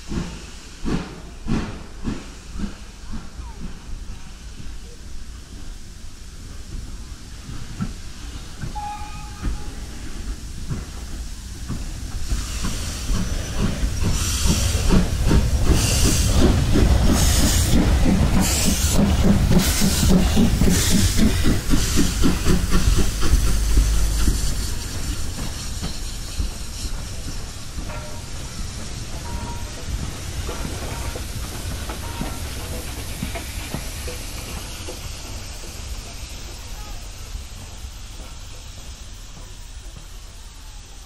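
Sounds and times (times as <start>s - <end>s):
hissing steam: 0.0s - 41.0s
steam locomotive exhaust beats: 0.0s - 41.0s.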